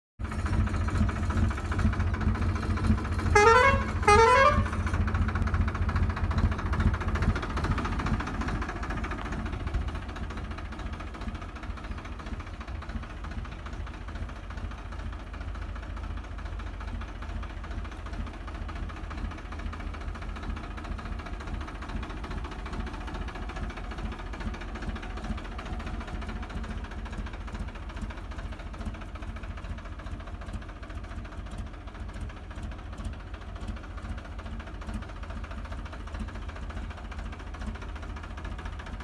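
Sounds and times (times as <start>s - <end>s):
tractor diesel engine idling: 0.2s - 39.0s.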